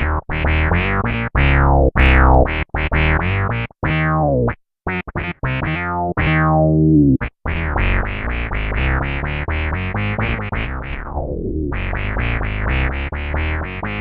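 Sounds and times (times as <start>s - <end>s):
synth bass guitar notes: 0.0s - 14.0s.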